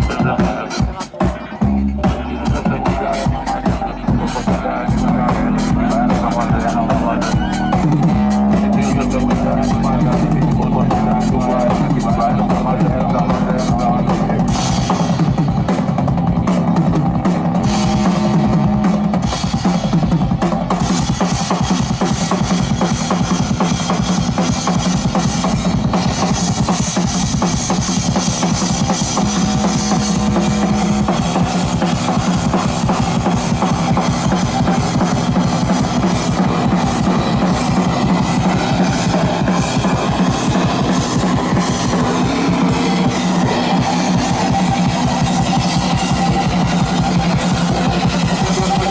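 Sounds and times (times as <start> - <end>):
fast drum beat: 0.0 - 48.9.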